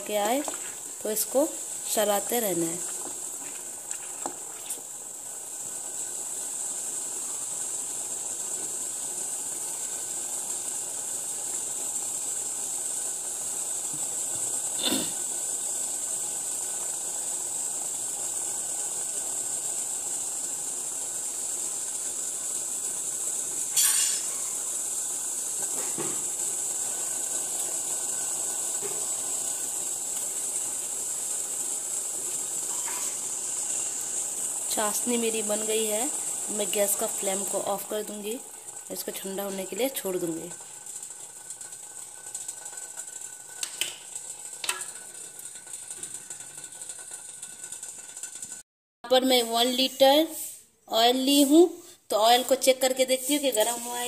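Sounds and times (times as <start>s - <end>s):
syrup boiling with fizzing hiss: 0.0s - 54.0s.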